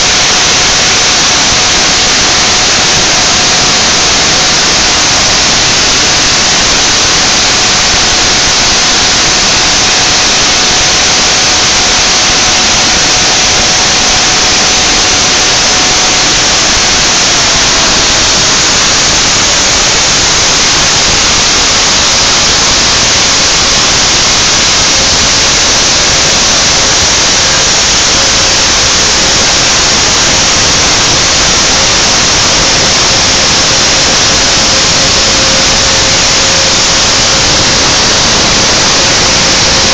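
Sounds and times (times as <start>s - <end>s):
router spindle hissing and whining: 0.0s - 39.9s.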